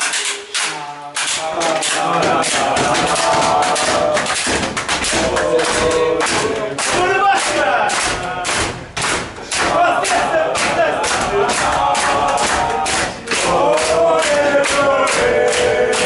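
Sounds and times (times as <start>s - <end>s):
rhythmic clapping: 0.0s - 16.0s
team chanting and shouting: 0.0s - 16.0s.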